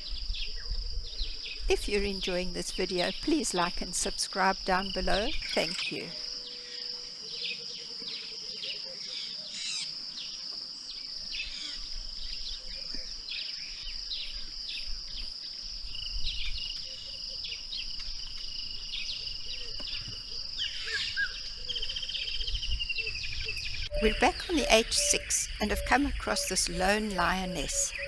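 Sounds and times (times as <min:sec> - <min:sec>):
high insect drone: 0:00.0 - 0:28.0
lower insect tone: 0:00.0 - 0:28.0.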